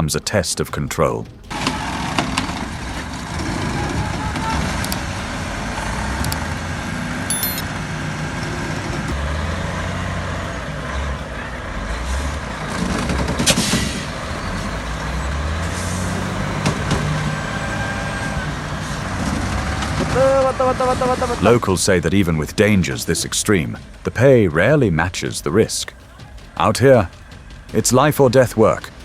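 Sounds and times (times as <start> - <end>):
heavy truck engine running: 1.4 - 29.0.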